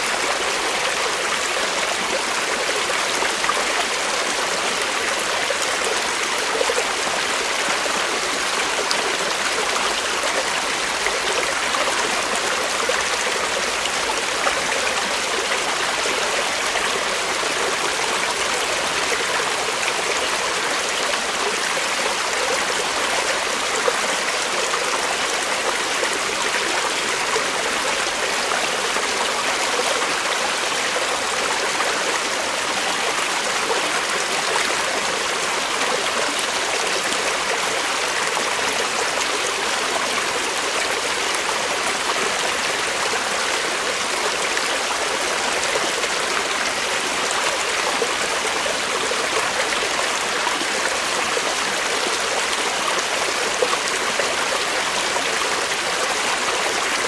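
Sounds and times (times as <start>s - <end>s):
creek water flowing over rocks: 0.0s - 57.0s.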